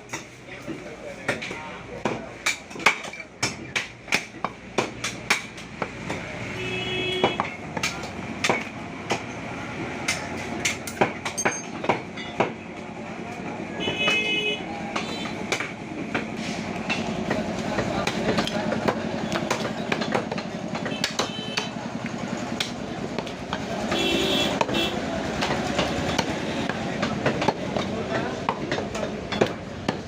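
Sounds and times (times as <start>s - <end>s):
busy market din: 0.0s - 30.0s
cleaver chopping meat on wood: 1.3s - 6.4s, 7.2s - 12.6s, 14.9s - 21.8s, 22.5s - 30.0s.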